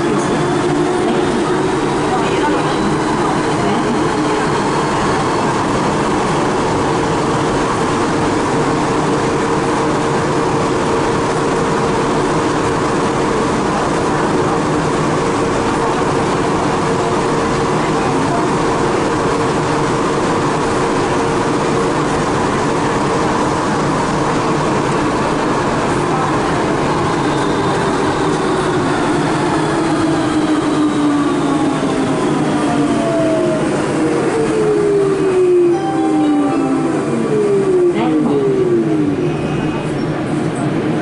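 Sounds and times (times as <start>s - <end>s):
metro car rushing: 0.0s - 41.0s
metro motor whine: 0.0s - 41.0s.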